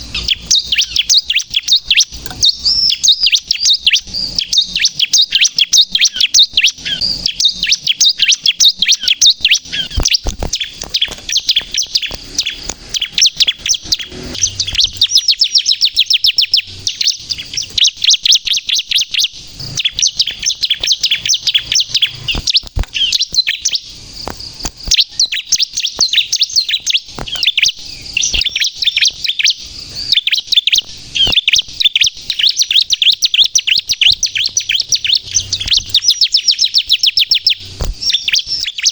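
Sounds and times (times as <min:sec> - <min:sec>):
bird singing rapid chirps and trills: 0:00.0 - 0:38.9.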